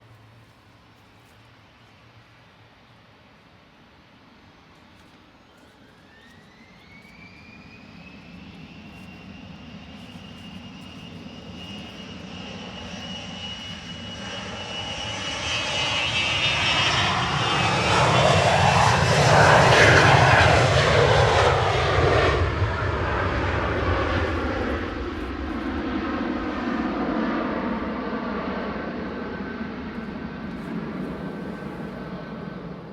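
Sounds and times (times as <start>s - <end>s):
jet passing on runway: 4.0s - 32.9s
jet engines spooling up: 4.7s - 32.9s.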